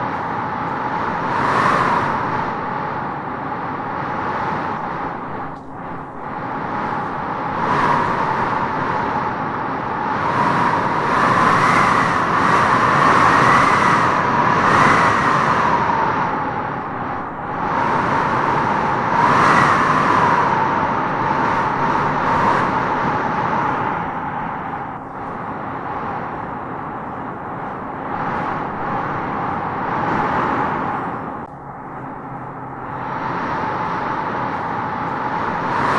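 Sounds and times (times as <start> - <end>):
wind gusting and howling: 0.0 - 35.9.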